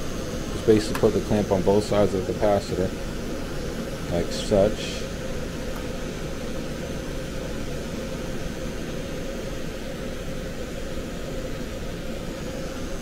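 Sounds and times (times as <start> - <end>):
blower motor whoosh of air: 0.0 - 13.0.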